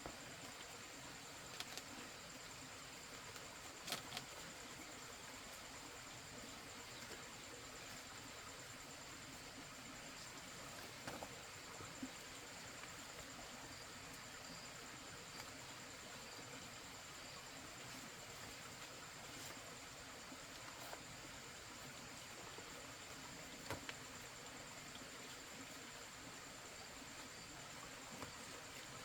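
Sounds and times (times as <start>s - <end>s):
insects trilling: 0.0s - 29.0s
quiet hiss: 0.0s - 29.0s.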